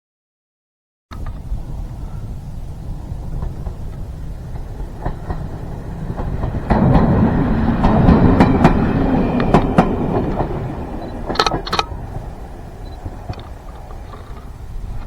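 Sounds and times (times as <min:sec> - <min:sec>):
wheels clicking over rail joints: 0:01.1 - 0:15.0
train rumbling past: 0:01.2 - 0:15.0.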